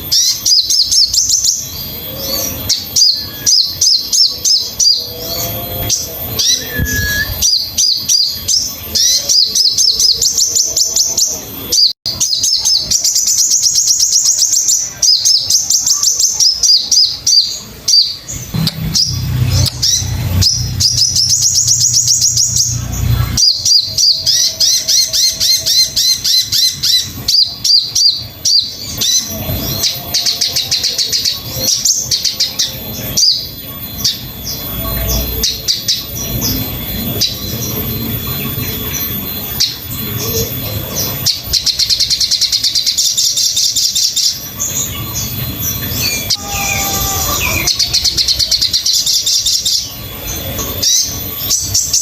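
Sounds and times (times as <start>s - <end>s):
bird chirping trills: 0.0s - 52.0s
low whistled bird notes: 0.0s - 52.0s.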